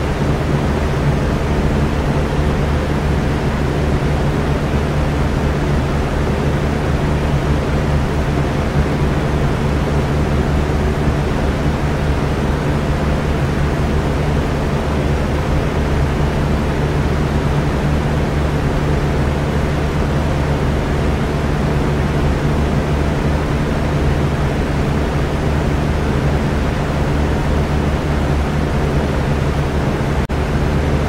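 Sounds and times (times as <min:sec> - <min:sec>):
electric fan running: 0:00.0 - 0:31.0.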